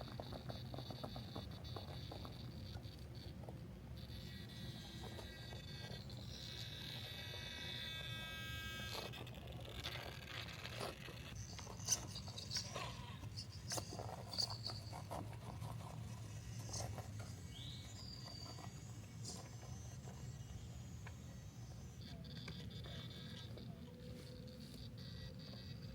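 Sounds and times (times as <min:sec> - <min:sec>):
toy truck motor whine: 0:00.0 - 0:25.9.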